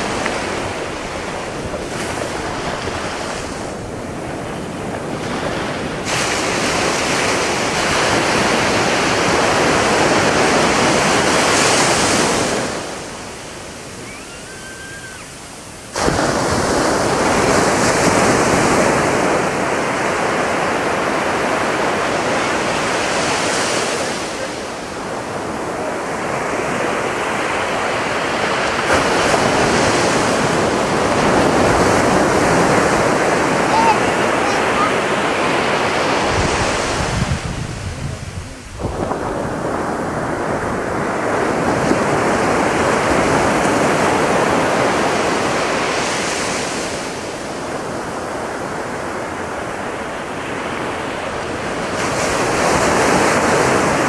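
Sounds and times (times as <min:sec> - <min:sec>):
ocean waves breaking on a beach: 0:00.0 - 0:54.0.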